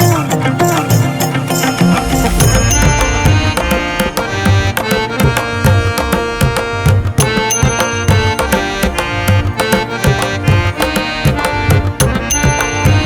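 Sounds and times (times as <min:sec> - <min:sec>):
melodic instruments: 0:00.0 - 0:13.0
rhythmic drum beat: 0:00.0 - 0:13.0.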